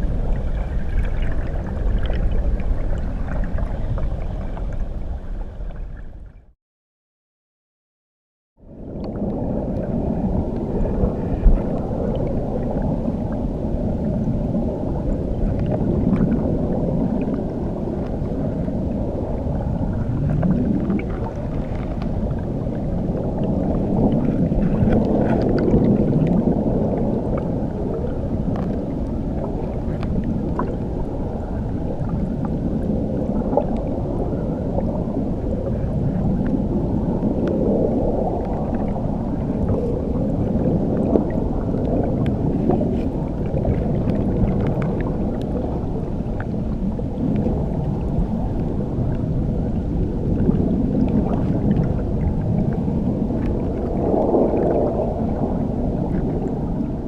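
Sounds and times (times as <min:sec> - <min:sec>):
muffled underwater water rumble: 0:00.0 - 0:06.6, 0:08.6 - 0:57.0.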